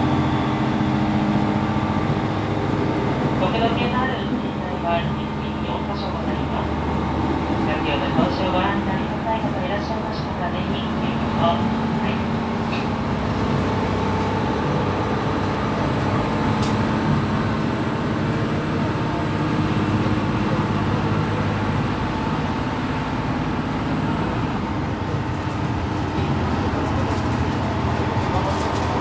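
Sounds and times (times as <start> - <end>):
diesel railcar running: 0.0 - 29.0.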